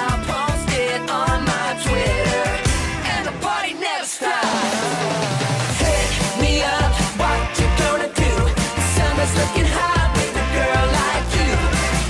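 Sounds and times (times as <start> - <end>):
steady drum beat: 0.0 - 3.3, 4.4 - 12.0
pop song with singing: 0.0 - 12.0.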